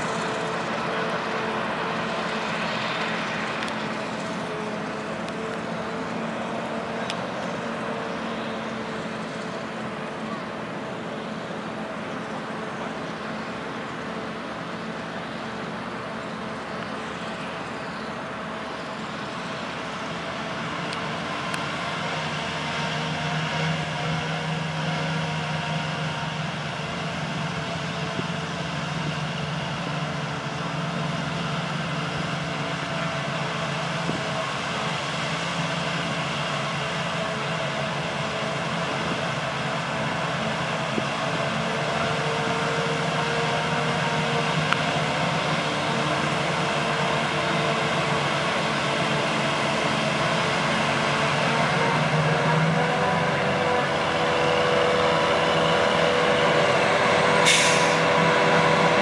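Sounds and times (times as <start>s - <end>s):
tractor running: 0.0s - 59.0s.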